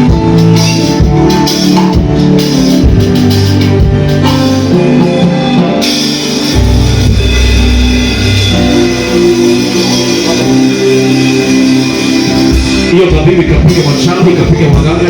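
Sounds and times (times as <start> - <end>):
bass line: 0.0 - 15.0
loud music with drum kit: 0.0 - 15.0.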